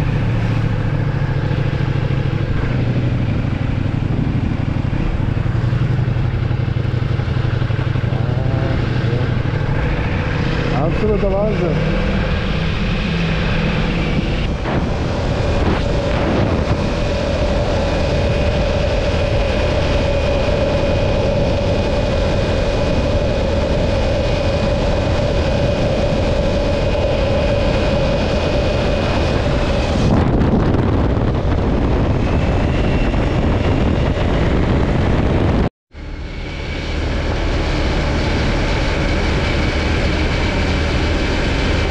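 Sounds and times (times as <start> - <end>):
motorcycle engine running: 0.0 - 41.9
wind rush: 0.0 - 41.9.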